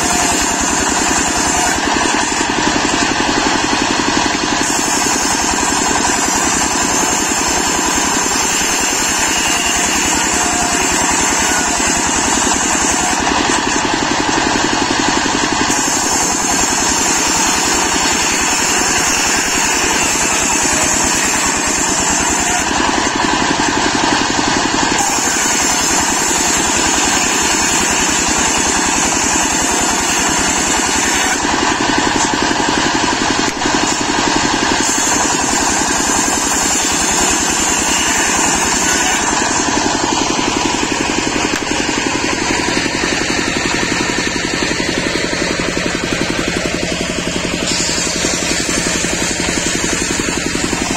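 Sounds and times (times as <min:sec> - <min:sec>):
circular saw ripping wood: 0:00.0 - 0:50.9
diesel engine running: 0:00.0 - 0:50.9.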